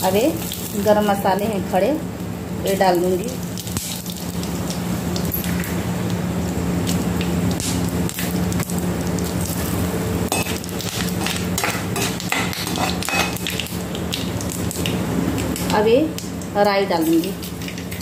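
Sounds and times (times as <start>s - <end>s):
spices sizzling in hot oil: 0.0s - 18.0s
steady low hum: 0.0s - 18.0s.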